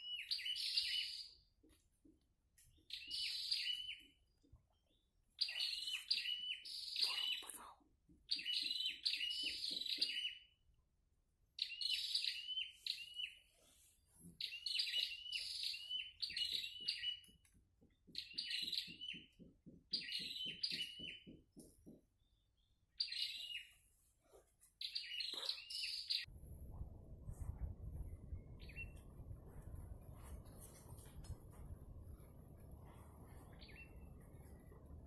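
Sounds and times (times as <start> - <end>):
songbird chirping: 0.0 - 10.8, 11.4 - 24.1, 24.7 - 26.4, 32.1 - 35.0.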